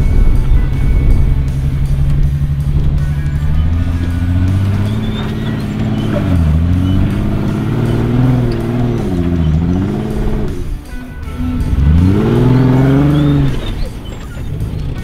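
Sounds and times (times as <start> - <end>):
car engine revving: 0.0 - 15.0
music: 0.0 - 15.0.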